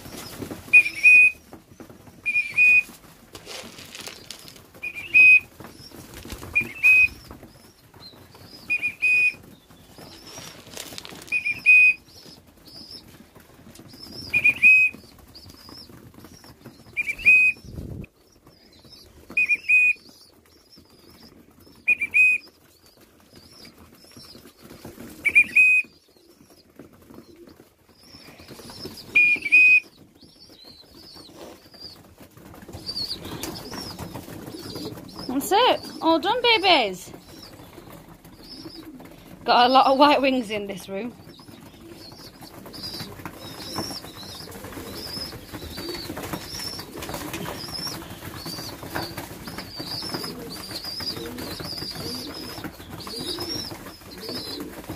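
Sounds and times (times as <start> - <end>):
pigeons flapping wings: 0.0 - 54.9.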